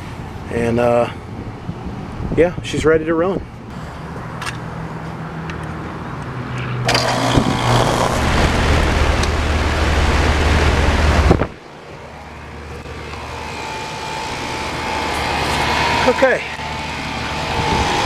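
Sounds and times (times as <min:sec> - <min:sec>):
air conditioner rushing air: 0:00.0 - 0:06.2, 0:06.8 - 0:18.0.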